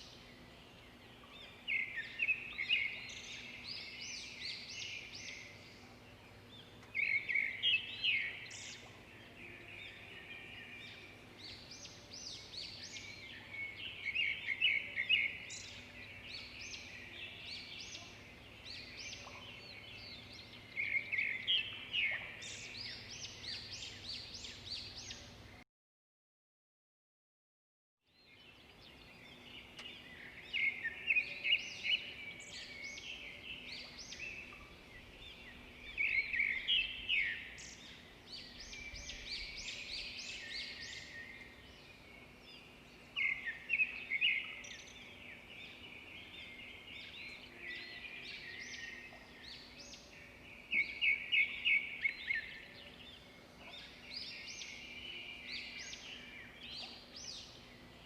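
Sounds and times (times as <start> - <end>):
songbirds chirping: 0.0 - 25.6, 28.1 - 58.0.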